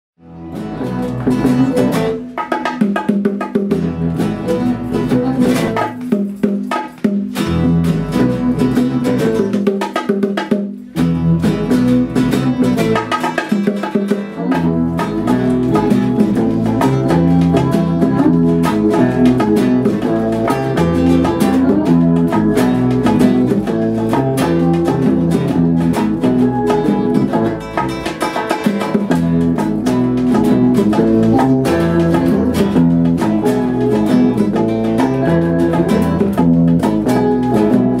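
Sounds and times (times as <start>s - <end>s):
guitar: 0.2s - 38.0s
percussion: 0.2s - 38.0s.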